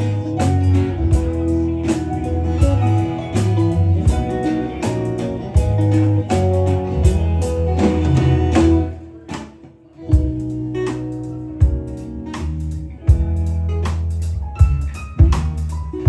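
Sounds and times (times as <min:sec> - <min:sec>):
band playing a song: 0:00.0 - 0:15.8.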